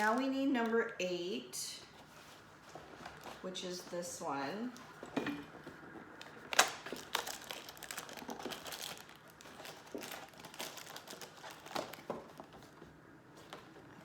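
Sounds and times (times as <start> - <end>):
cardboard and plastic bag crinkling: 0.0 - 0.8, 1.8 - 14.0.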